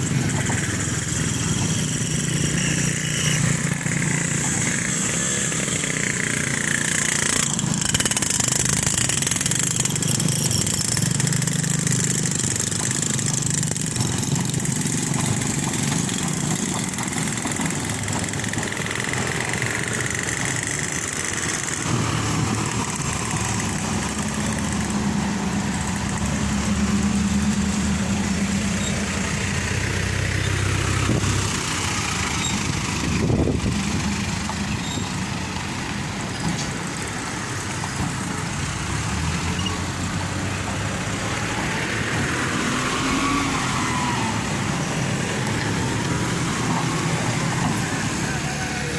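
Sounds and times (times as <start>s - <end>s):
motor vehicle engines running: 0.0s - 48.9s.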